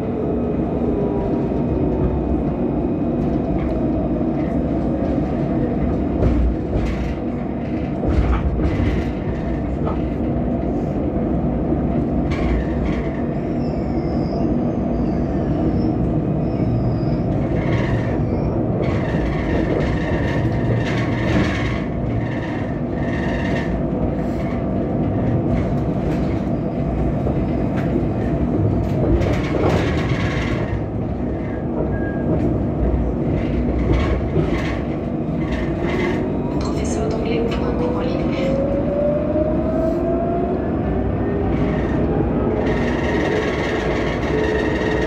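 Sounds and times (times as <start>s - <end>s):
tram rumbling along rails: 0.0s - 45.0s.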